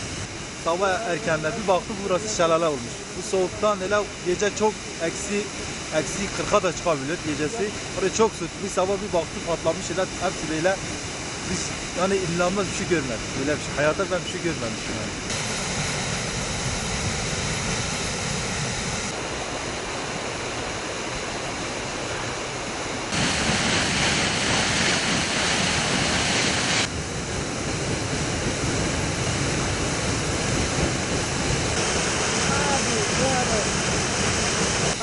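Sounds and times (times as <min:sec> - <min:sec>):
water blasting from pipe: 0:00.0 - 0:19.2, 0:23.0 - 0:35.0.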